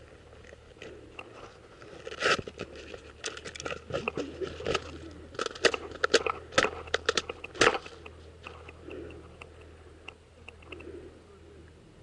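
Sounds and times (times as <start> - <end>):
crunching of dry dirt: 0.0 - 11.1.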